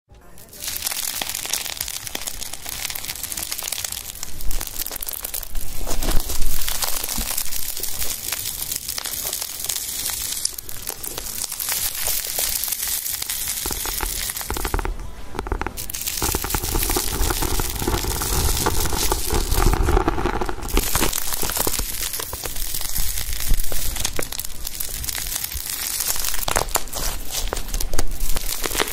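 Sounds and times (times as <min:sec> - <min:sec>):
dense crackling and rustling: 0:00.1 - 0:28.9.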